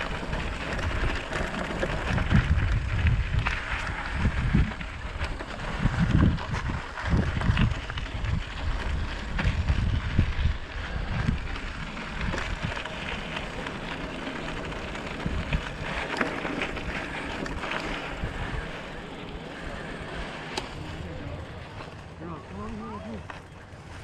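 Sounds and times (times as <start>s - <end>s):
bicycle tyres rolling on gravel: 0.0s - 24.0s
wind buffeting microphone: 0.0s - 24.0s.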